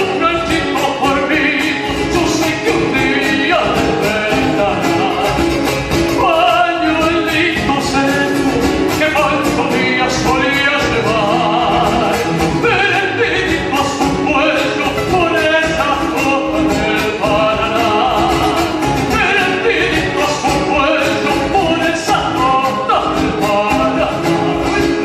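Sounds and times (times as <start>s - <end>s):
folk instrumental accompaniment: 0.0s - 25.0s
person singing with vibrato: 0.0s - 25.0s.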